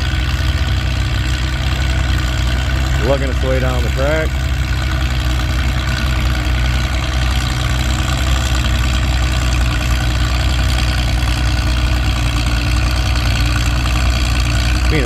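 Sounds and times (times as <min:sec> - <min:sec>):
tractor diesel engine lugging: 0:00.0 - 0:15.0.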